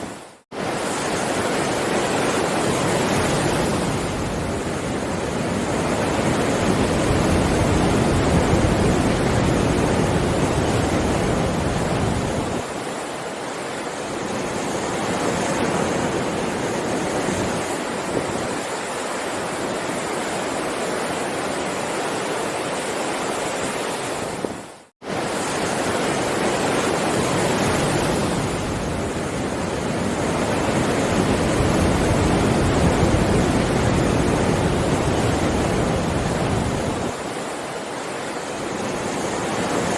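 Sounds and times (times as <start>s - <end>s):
heavy ocean waves surging: 0.0s - 39.9s.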